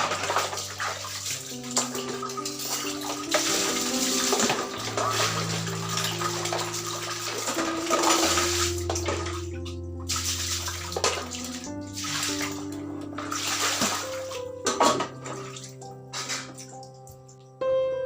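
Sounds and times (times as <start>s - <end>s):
water running and splashing: 0.0s - 17.4s
soft background music: 0.0s - 18.0s.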